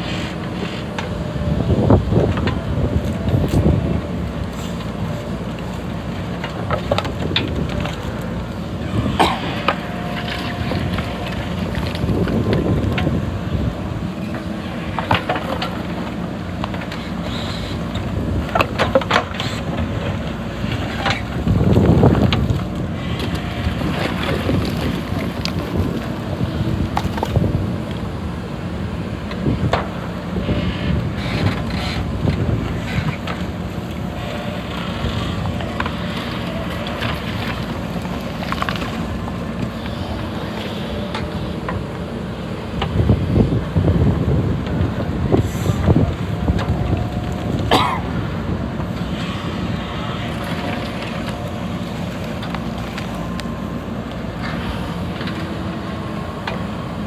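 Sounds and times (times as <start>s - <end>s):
wind noise on microphone: 0.0s - 6.0s, 6.6s - 15.0s, 17.1s - 38.0s, 39.9s - 52.3s
diesel engine running: 0.0s - 57.0s.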